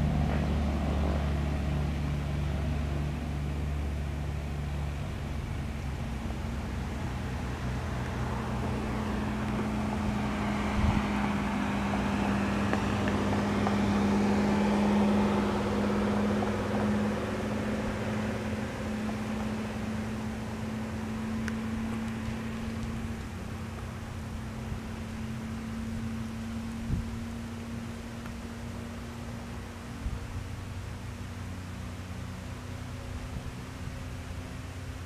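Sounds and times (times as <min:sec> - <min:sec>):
airplane engine and propeller drone: 0:00.0 - 0:35.0.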